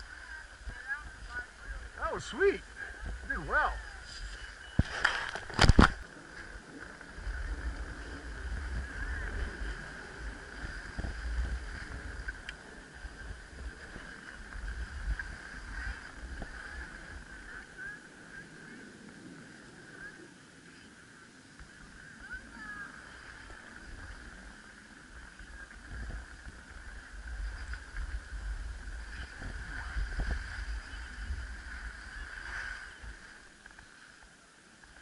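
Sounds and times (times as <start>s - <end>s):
wind buffeting camera microphone: 0.0s - 34.0s.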